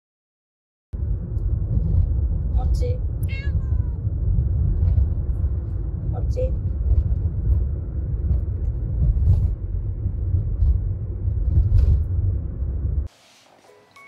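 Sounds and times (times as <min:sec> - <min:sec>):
car road noise rumble: 0:01.0 - 0:13.9.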